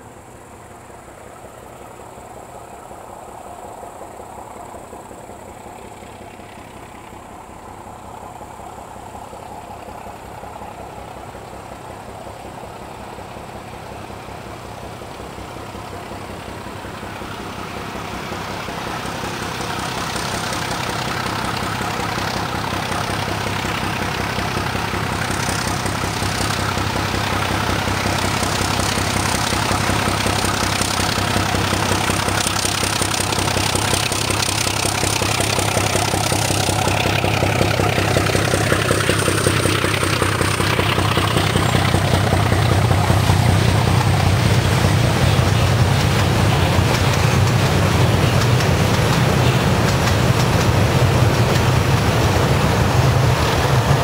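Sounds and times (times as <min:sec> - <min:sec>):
diesel locomotive engine pulsing: 0:00.0 - 0:54.0.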